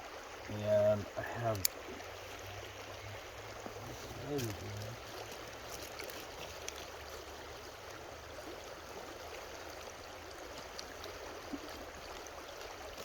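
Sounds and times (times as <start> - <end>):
creek water babbling: 0.0 - 13.0.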